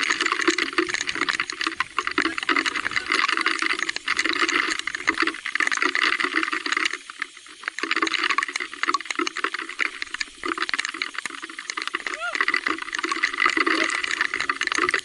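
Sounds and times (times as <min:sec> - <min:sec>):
small clicks and knocks: 0:00.0 - 0:15.0.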